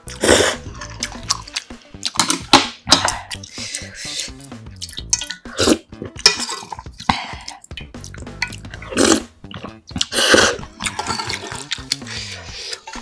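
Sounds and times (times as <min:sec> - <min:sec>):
slurping noodles and broth: 0:00.0 - 0:13.0.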